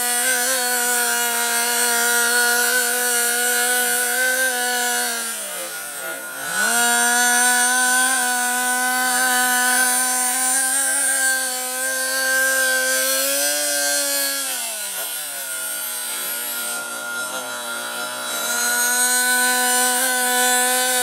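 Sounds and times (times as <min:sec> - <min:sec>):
small nitro engine buzzing: 0:00.0 - 0:21.0.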